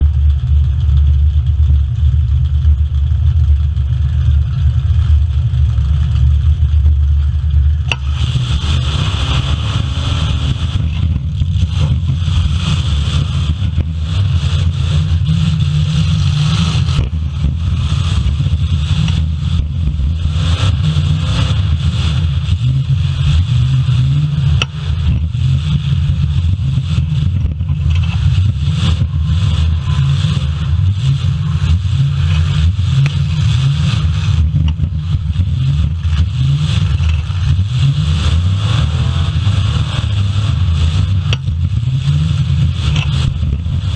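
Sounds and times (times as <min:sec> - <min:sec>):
car engines rumbling and revving: 0:00.0 - 0:43.9.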